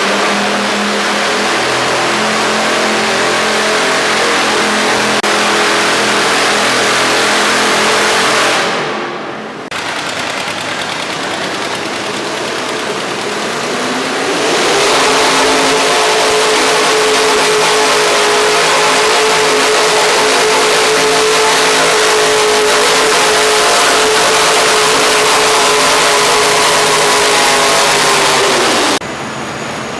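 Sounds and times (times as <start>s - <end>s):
tractor engine revving hard: 0.0s - 29.0s.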